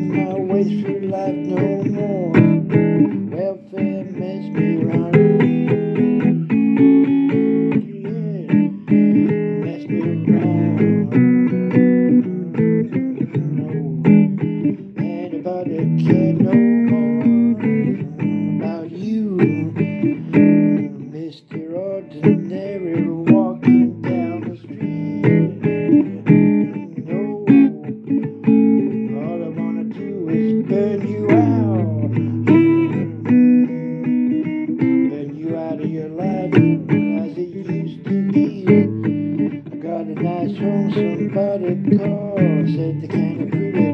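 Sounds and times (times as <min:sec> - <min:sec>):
blues guitar instrumental: 0:00.0 - 0:43.9.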